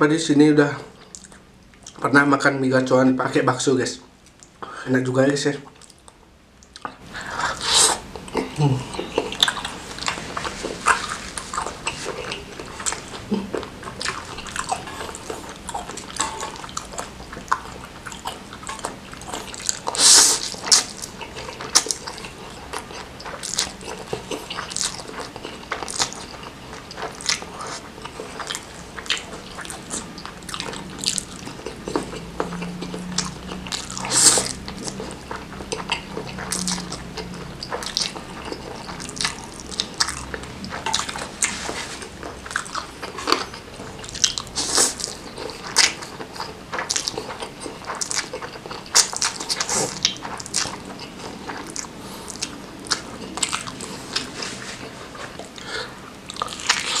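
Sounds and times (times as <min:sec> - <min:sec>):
wet chewing: 0:05.7 - 0:57.0.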